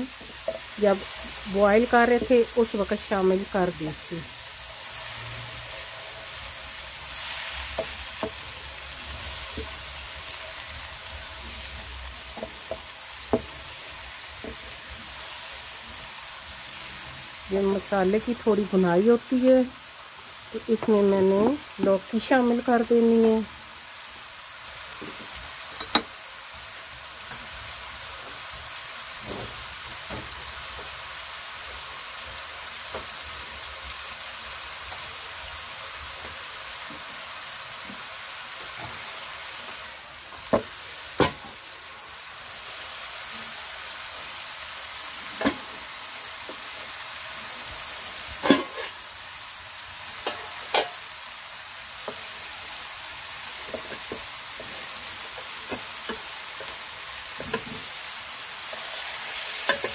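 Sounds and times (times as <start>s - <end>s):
masala sizzling in hot oil: 0.0s - 59.9s.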